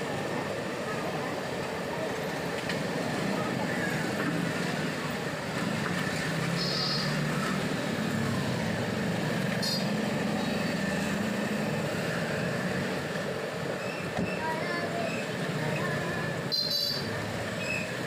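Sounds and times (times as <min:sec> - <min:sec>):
passing motorbikes and scooters: 0:00.0 - 0:18.0.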